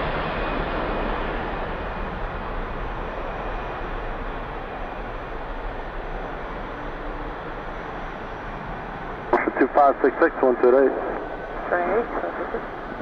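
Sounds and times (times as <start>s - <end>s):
jet airliner engines roaring: 0.0s - 13.0s.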